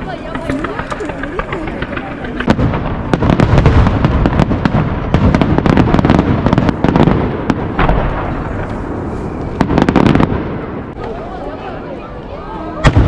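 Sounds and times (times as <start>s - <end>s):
firework booms: 0.0s - 11.0s, 12.8s - 13.0s
firework crackling: 0.0s - 11.7s.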